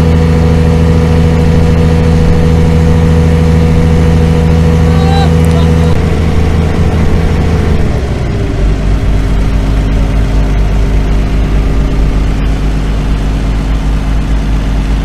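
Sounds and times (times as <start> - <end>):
water pump engines running: 0.0 - 15.0.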